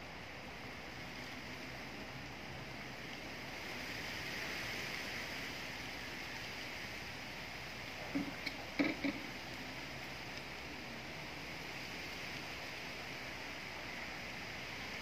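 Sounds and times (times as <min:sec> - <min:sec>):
wind rustling leaves: 0:00.0 - 0:15.0.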